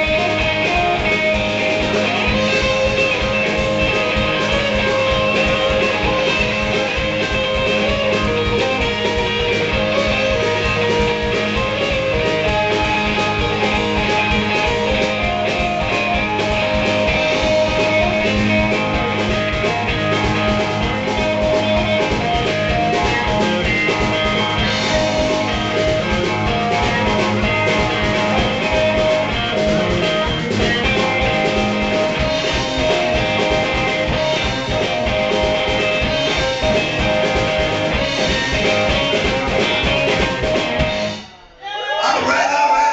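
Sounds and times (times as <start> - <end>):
drum kit steady beat: 0.0 - 41.5
electric guitar: 0.0 - 41.6.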